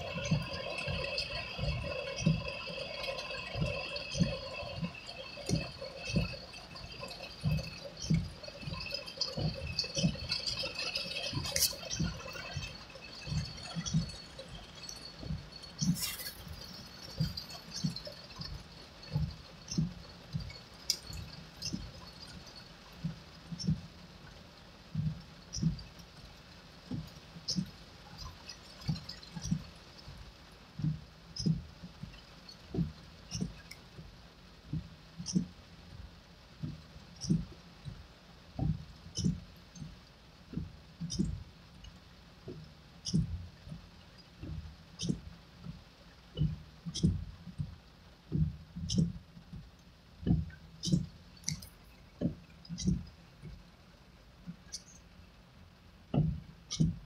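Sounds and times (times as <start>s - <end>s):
heavy rain on car: 0.0s - 57.0s
windshield wipers thumping and clicking: 0.0s - 57.0s.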